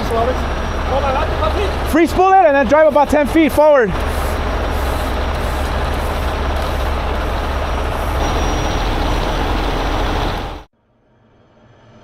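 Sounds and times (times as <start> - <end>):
diesel truck engine running: 0.0 - 10.7.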